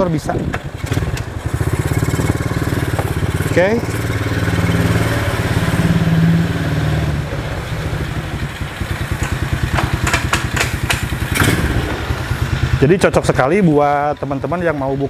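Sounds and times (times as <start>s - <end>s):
quad bike engine revving: 0.3s - 15.0s.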